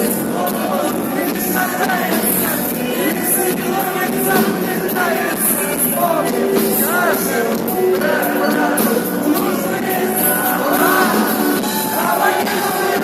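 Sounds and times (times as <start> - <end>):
pop-rock song with singing: 0.0 - 13.0.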